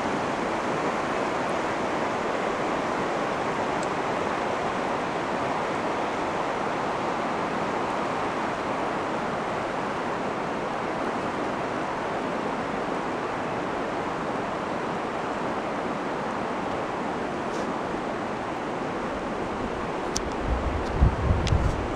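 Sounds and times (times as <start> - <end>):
river rushing over rocks: 0.0 - 21.9.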